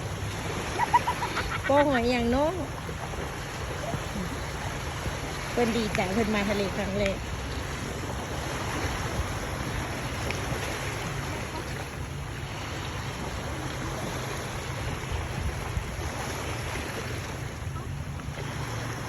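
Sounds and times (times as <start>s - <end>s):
surf on beach: 0.0s - 19.0s
wind buffeting microphone: 0.0s - 19.0s.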